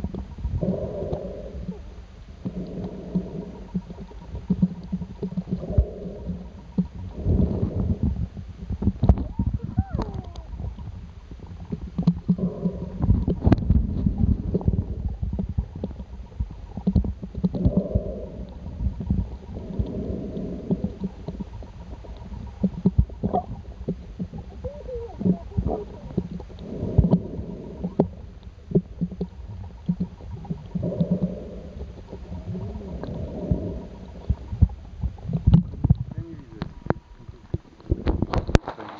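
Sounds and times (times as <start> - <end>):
gurgling water: 0.0 - 38.9
muffled underwater rumbling: 0.0 - 38.9.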